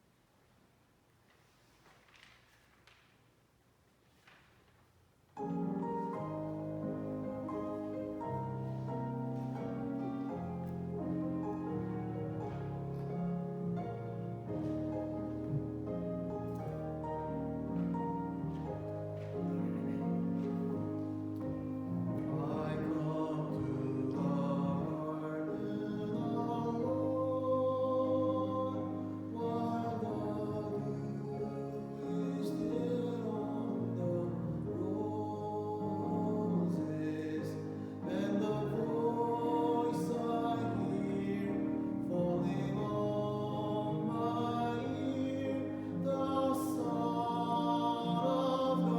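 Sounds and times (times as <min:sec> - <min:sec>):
slow worship music: 0:04.1 - 0:48.9
hymn singing: 0:05.4 - 0:48.9.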